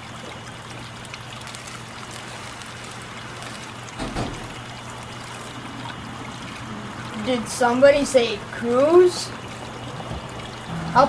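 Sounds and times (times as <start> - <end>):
steady hiss: 0.7 - 11.0.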